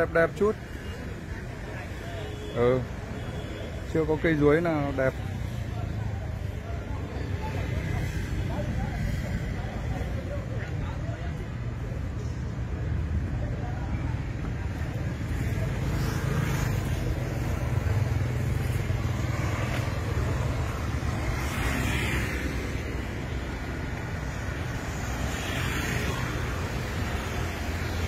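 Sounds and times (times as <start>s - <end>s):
passing cars and motorbikes: 0.0s - 28.0s.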